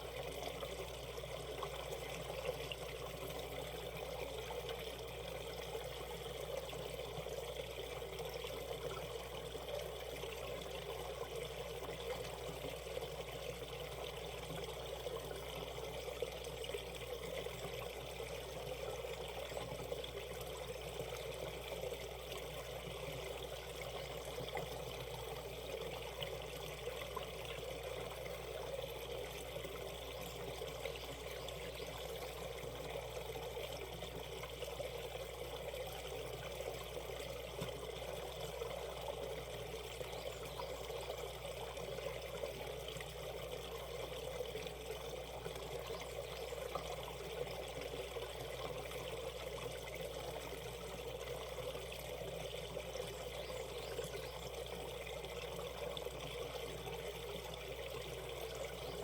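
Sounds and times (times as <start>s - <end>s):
stream water running over rocks: 0.0s - 59.0s.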